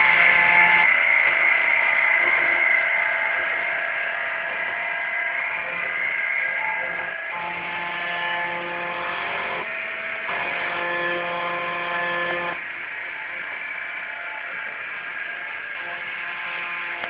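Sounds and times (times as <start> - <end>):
constant machine hum: 0.0 - 17.0
stepper motors whining: 0.0 - 17.0.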